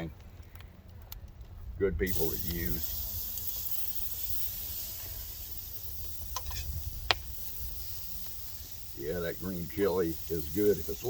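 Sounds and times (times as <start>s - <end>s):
food sizzling over wood fire: 2.1s - 11.0s.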